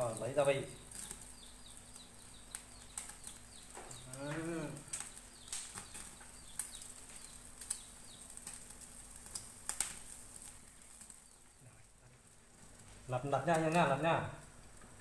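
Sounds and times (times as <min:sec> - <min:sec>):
meat grilling with fat crackling: 0:00.0 - 0:15.0
small birds chirping: 0:00.0 - 0:15.0.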